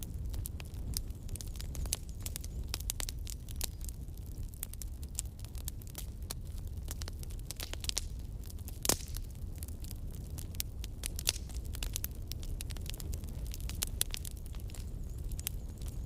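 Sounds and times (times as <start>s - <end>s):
campfire crackling and snapping: 0.0s - 16.0s.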